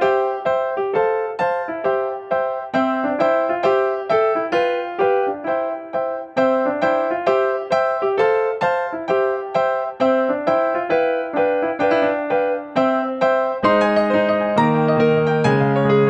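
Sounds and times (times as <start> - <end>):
piano-like keyboard melody: 0.0 - 16.0.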